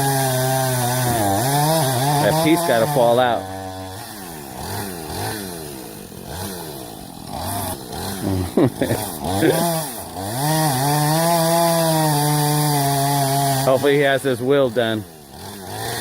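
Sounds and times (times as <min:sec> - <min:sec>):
chainsaw cutting tree trunk: 0:00.0 - 0:16.0.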